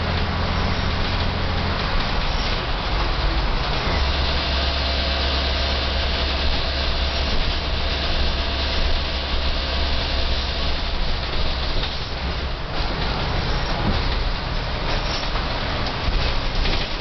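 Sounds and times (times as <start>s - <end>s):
bus diesel engine humming: 0.0s - 17.0s
road noise: 0.0s - 17.0s.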